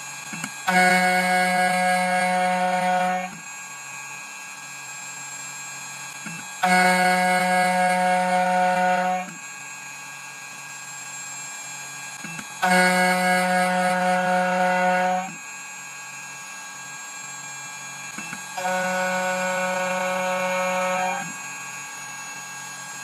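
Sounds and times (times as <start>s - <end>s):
key-cutting machine motor whine: 0.0s - 23.0s.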